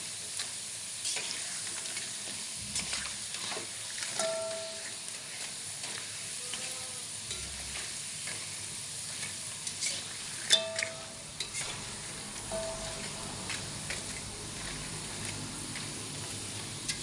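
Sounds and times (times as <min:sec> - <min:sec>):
food sizzling in a frying pan: 0:00.0 - 0:17.0
metal utensil scraping a pan: 0:02.6 - 0:17.0.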